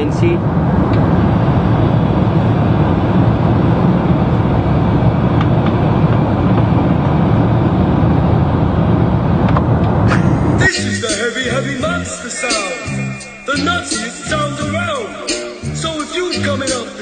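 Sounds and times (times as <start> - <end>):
jet airliner cabin noise: 0.0 - 17.0.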